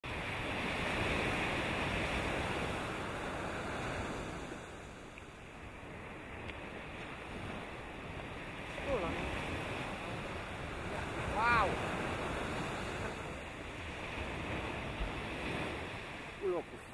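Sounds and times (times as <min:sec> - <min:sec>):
surf: 0:00.0 - 0:16.9
wind: 0:00.0 - 0:16.9.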